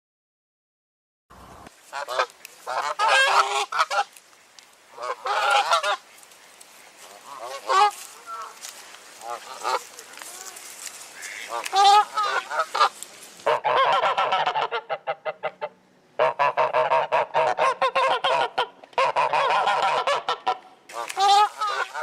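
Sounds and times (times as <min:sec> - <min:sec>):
geese honking: 0:01.8 - 0:04.2, 0:04.9 - 0:22.0.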